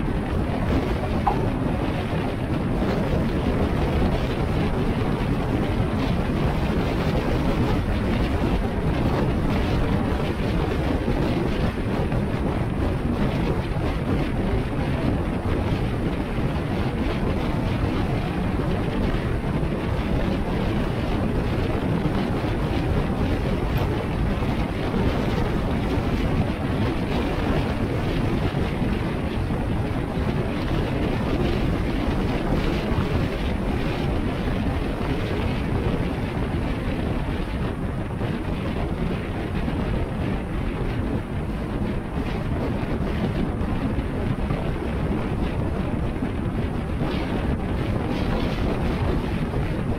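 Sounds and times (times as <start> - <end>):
road and wind noise: 0.0 - 49.9
wind buffeting microphone: 0.0 - 49.9.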